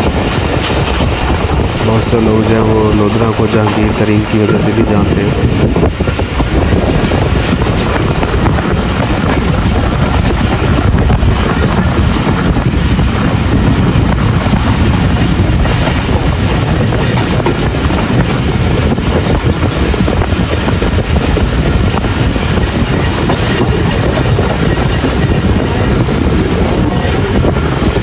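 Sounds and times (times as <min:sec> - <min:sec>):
train wheels rumbling: 0:00.0 - 0:28.0.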